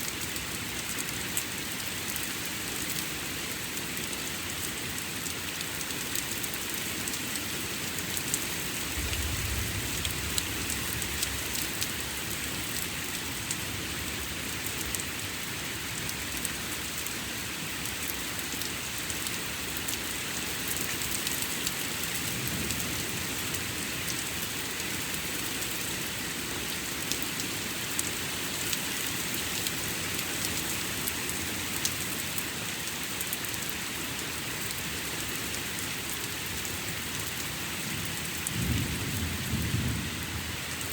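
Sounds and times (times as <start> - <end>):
steady rain falling: 0.0 - 40.9
raindrops ticking close: 0.1 - 40.9.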